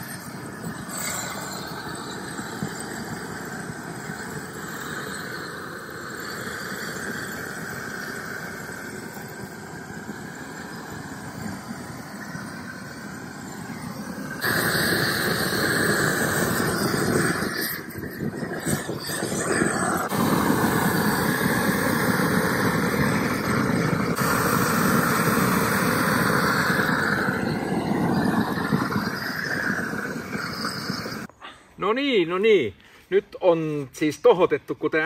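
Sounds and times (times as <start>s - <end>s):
gas torch hissing: 0.0s - 31.3s.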